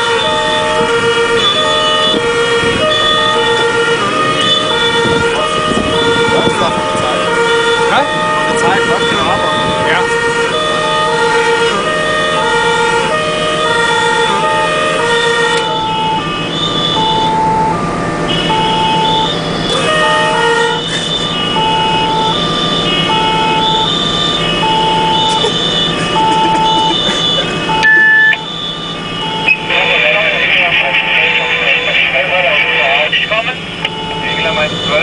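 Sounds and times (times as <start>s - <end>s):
diesel engine drone: 0.0s - 35.0s
two-tone fire engine sirens: 0.0s - 35.0s.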